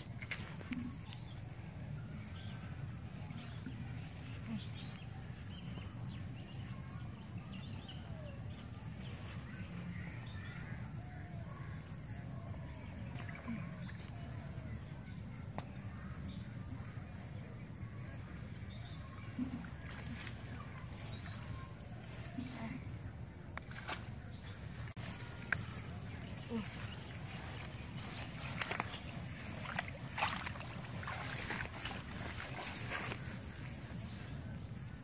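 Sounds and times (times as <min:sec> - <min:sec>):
birds chirping: 0:00.0 - 0:35.0
steady low hum: 0:00.0 - 0:35.0.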